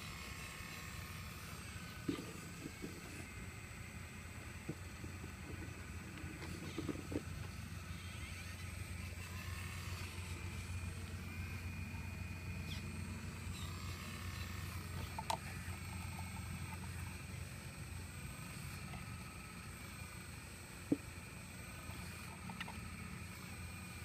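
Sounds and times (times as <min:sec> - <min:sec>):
excavator engine humming: 0:00.0 - 0:24.0.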